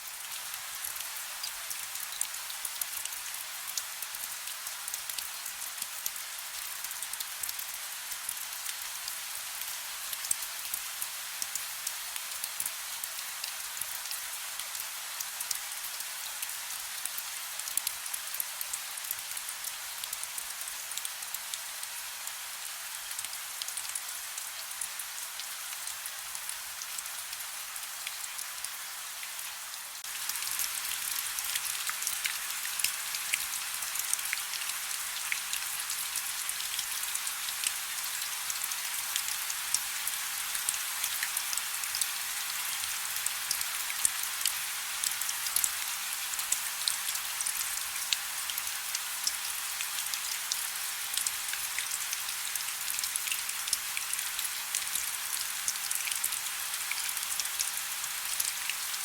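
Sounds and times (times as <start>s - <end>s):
rain pattering: 0.1s - 58.9s.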